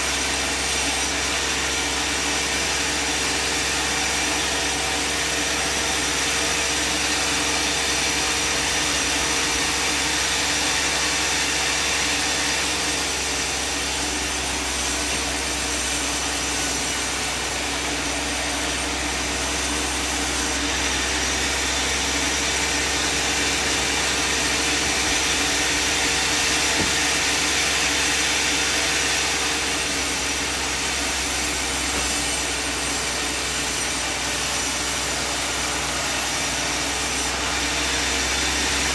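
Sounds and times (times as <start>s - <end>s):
band sawmill sawing timber: 0.0s - 38.9s.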